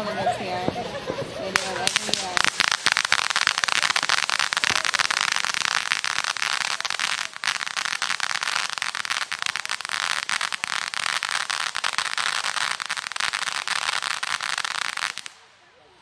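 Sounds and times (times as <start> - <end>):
firework fountain crackling: 0.0 - 16.0.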